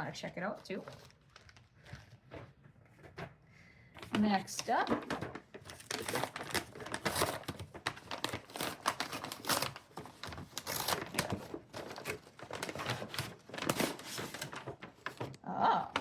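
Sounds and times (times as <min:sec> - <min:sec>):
packaging crinkling and rustling: 0:00.4 - 0:02.8, 0:04.0 - 0:16.0.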